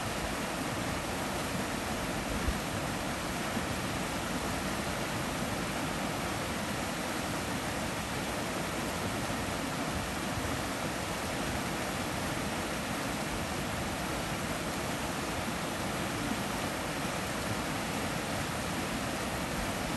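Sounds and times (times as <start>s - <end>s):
stream rushing over rocks: 0.0s - 19.9s.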